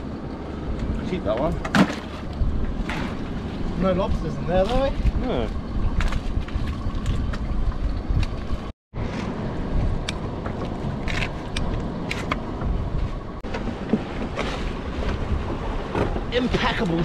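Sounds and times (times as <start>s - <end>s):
boat engine running: 0.0s - 17.0s
wind on microphone: 2.2s - 8.7s, 9.5s - 16.6s.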